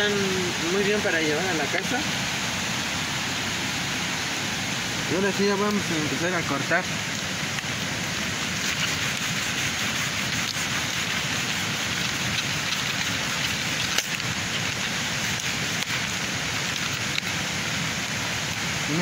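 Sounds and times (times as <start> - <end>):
steady rushing hiss: 0.0 - 19.0.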